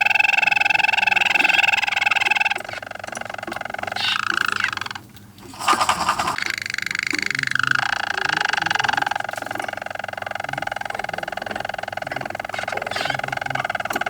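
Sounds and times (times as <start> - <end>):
canary singing rolling song: 0.0 - 14.0.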